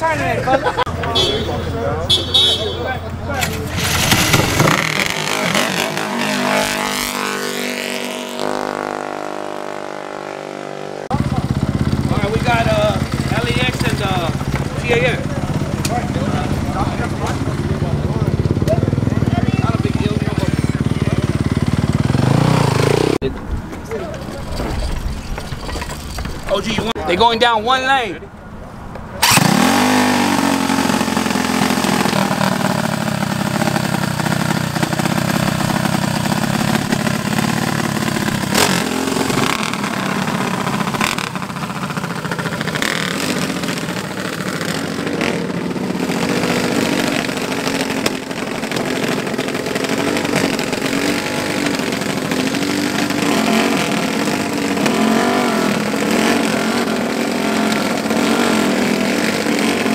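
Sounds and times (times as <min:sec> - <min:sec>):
mini bike engine revving: 0:03.3 - 0:23.3, 0:29.2 - 0:59.9.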